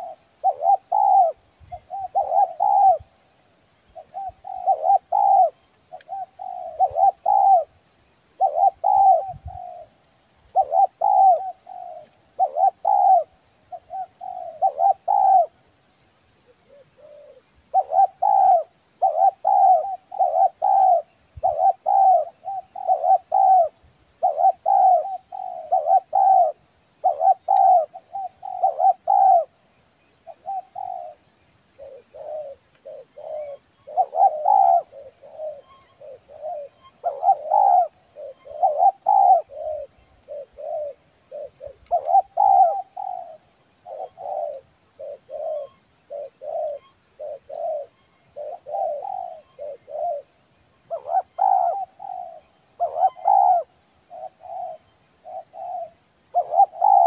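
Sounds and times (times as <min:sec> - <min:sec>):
dove cooing: 0:00.0 - 0:03.1, 0:03.9 - 0:15.7, 0:16.4 - 0:57.0.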